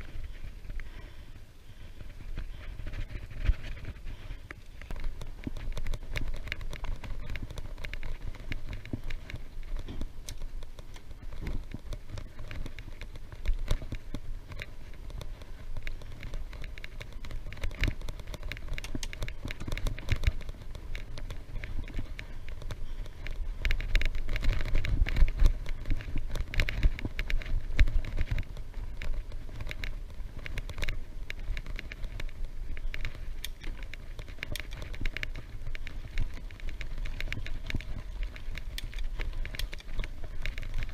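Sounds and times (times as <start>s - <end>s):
bicycle clicks and rattles: 0.0s - 40.9s
wind buffeting microphone: 0.0s - 40.9s.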